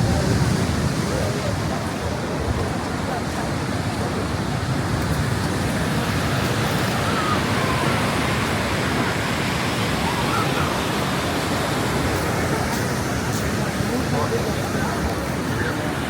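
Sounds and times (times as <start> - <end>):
surf on a beach: 0.0 - 16.0.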